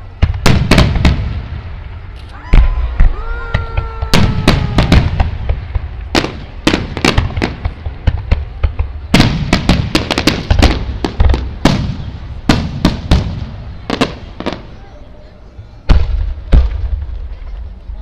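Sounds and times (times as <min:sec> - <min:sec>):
fireworks bursting: 0:00.0 - 0:15.0, 0:15.8 - 0:18.0.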